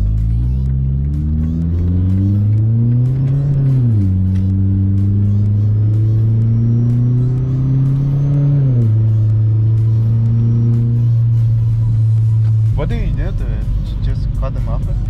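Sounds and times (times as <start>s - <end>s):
loud car engine running: 0.0s - 15.0s.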